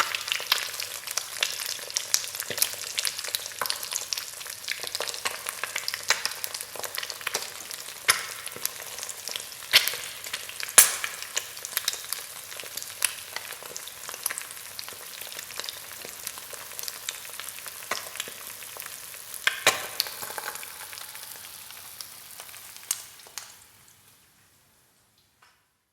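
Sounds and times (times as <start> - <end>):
egg sizzling in a frying pan: 0.0 - 25.4.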